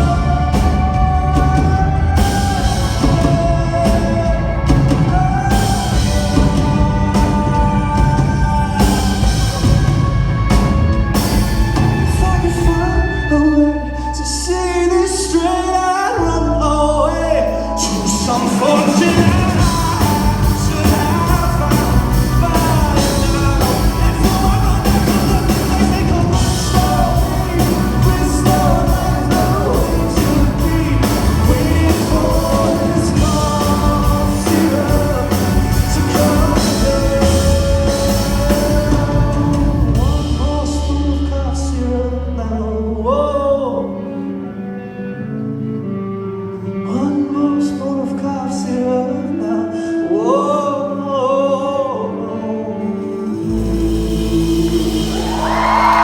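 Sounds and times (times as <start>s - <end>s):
male lead vocal: 0.0s - 44.6s, 46.6s - 56.0s
live rock band playing: 0.0s - 56.0s.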